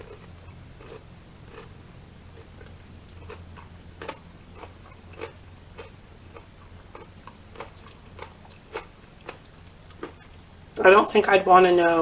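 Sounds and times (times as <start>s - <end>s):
wet mouth clicks chewing: 0.0s - 1.8s, 2.4s - 10.5s
steady low hum: 0.0s - 12.0s.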